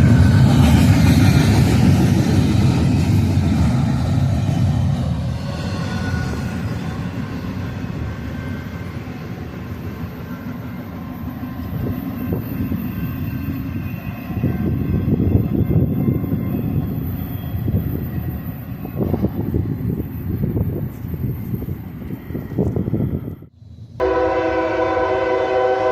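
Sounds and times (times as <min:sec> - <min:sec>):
freight train wheels rumbling: 0:00.0 - 0:25.9.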